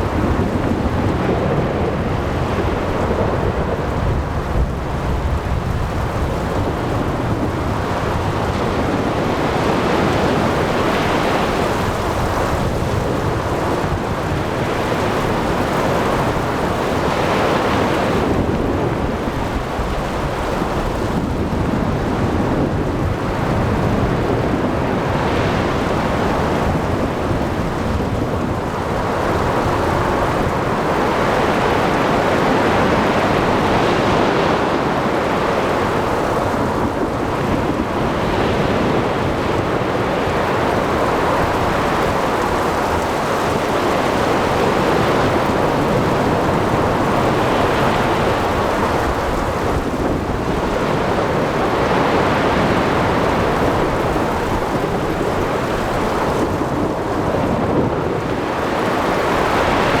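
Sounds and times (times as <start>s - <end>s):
ocean waves breaking: 0.0s - 60.0s
rain: 0.0s - 60.0s
wind: 0.0s - 60.0s.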